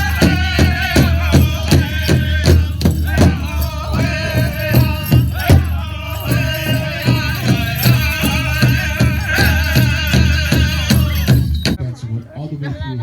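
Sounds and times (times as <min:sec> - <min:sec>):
group singing: 0:00.0 - 0:11.8
hand drum steady beat: 0:00.0 - 0:11.8.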